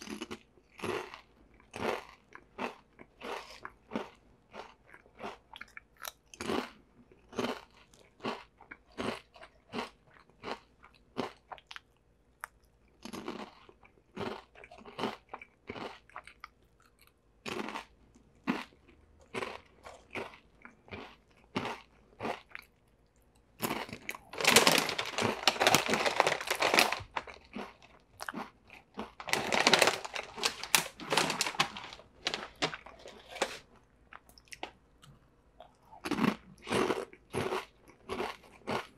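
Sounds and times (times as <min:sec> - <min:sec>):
crunching and chewing chips: 0:00.0 - 0:38.9.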